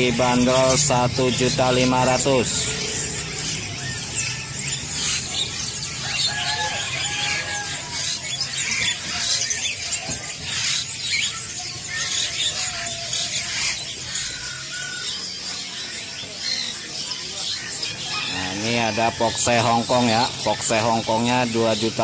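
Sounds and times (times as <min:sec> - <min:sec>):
songbirds chirping and squealing: 0:00.0 - 0:22.0.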